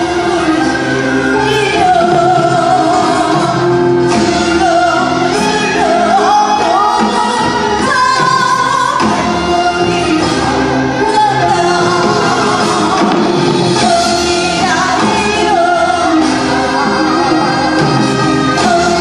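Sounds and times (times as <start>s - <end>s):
traditional orchestra playing: 0.0s - 19.0s.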